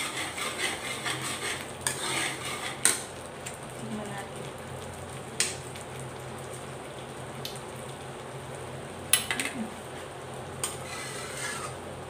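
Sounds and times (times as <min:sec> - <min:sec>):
sauce sizzling in a wok: 0:00.0 - 0:12.0.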